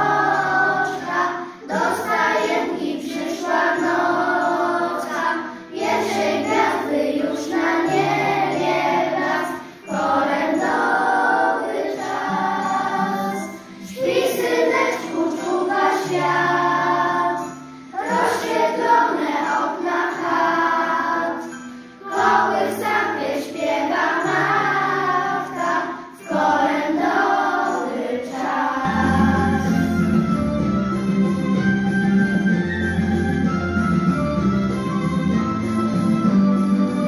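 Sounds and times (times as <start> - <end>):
children's choir singing carol: 0.0 - 30.7
instrumental accompaniment: 0.0 - 37.0.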